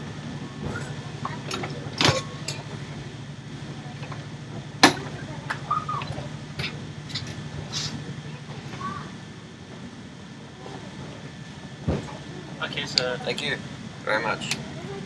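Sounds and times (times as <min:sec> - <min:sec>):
low carriage hum: 0:00.0 - 0:15.0.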